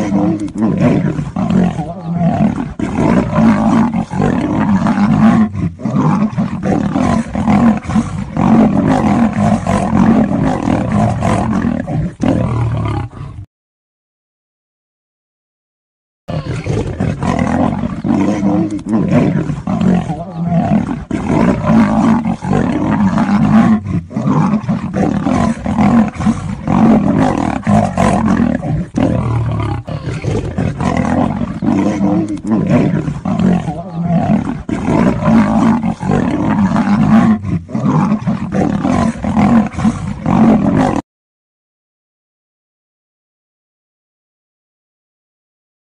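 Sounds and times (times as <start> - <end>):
big cats snarling and roaring: 0.0 - 13.5, 16.3 - 41.0.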